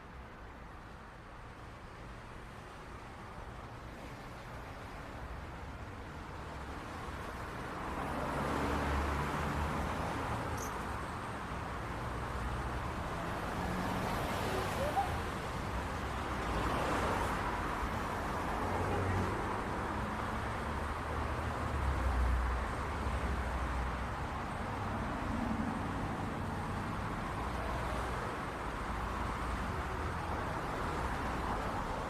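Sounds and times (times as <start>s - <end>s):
cars passing by: 0.0s - 32.0s.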